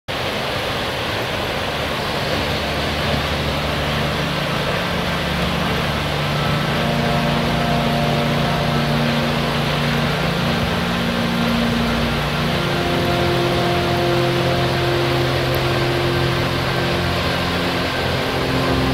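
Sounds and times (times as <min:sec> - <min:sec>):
steady rushing noise: 0:00.1 - 0:18.9
low held tones: 0:01.7 - 0:18.9.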